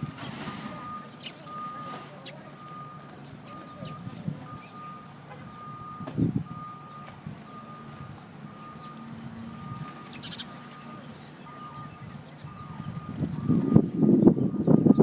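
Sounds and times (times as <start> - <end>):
small birds chirping: 0.0 - 15.0
vehicle backup alarm beeping: 0.0 - 15.0.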